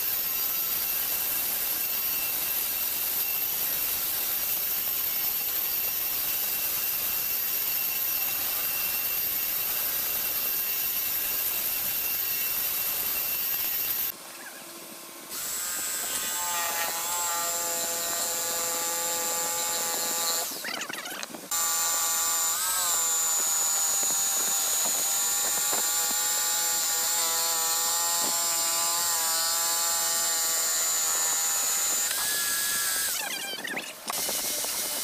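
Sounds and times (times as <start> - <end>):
electric power tool whining: 0.0 - 14.2, 15.3 - 35.0.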